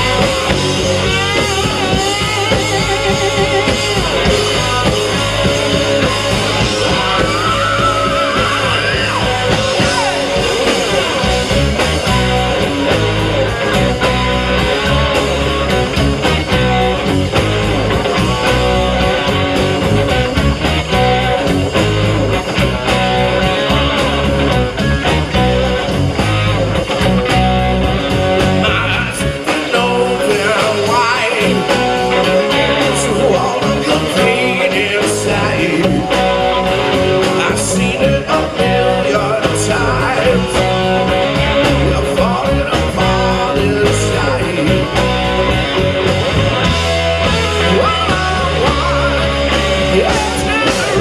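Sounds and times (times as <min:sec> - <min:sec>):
bass guitar: 0:00.0 - 0:51.0
driving drum beat: 0:00.0 - 0:51.0
electric guitar: 0:00.0 - 0:51.0.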